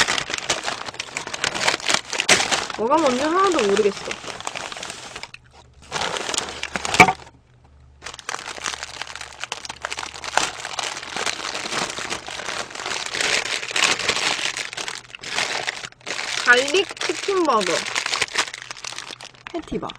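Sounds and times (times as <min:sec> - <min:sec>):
paper wrapping crinkling: 0:00.0 - 0:07.3, 0:08.0 - 0:19.9.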